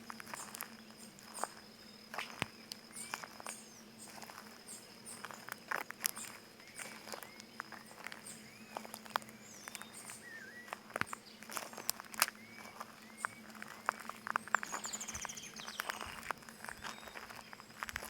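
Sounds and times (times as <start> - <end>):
footsteps crunching on stony ground: 0.0 - 18.0
birds whistling: 2.2 - 5.5, 6.1 - 17.8.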